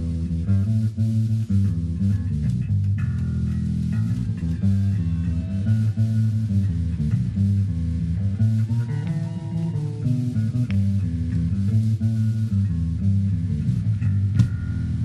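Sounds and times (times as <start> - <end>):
electric bass guitar: 0.0 - 15.0
faint guitar: 0.0 - 15.0.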